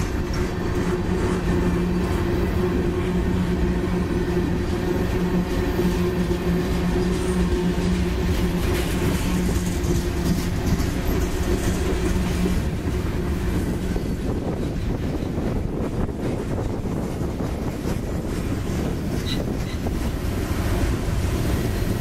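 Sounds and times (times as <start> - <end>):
freight train wheels rumbling on rails: 0.0 - 22.0.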